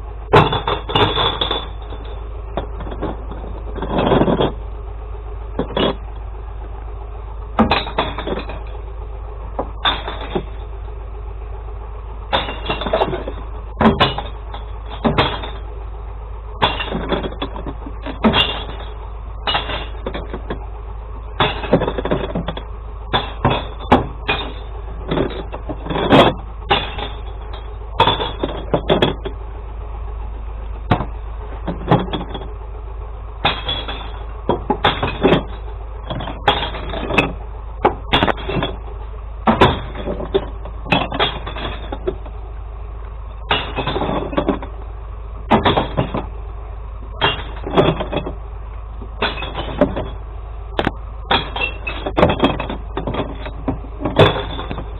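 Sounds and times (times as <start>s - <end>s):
truck engine hum: 0.0s - 54.9s
glass clattering into truck: 0.3s - 4.7s, 5.6s - 6.0s, 7.6s - 8.8s, 9.5s - 10.8s, 12.3s - 15.8s, 16.5s - 20.6s, 21.3s - 29.4s, 30.8s - 32.6s, 33.4s - 42.4s, 43.0s - 44.8s, 45.4s - 46.4s, 47.0s - 48.4s, 49.0s - 54.9s.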